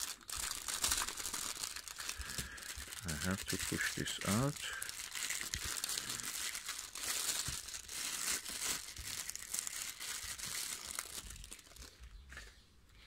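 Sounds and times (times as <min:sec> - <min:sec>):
plastic wrapping crinkling: 0:00.0 - 0:12.5.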